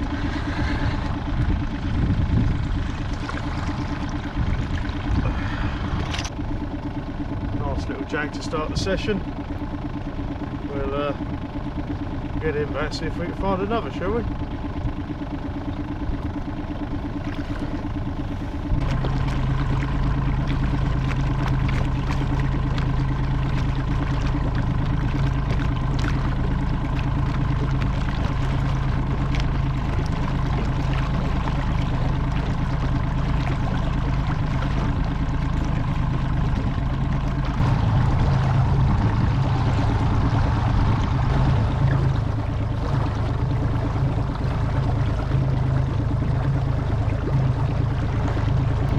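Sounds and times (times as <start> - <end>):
outboard motor running: 0.0 - 48.9
water rushing past hull: 0.0 - 48.9.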